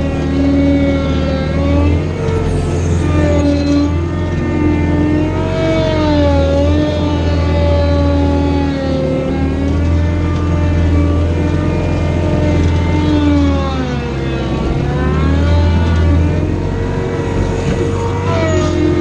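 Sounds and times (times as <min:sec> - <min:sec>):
skid steer engine and hydraulics: 0:00.0 - 0:19.0.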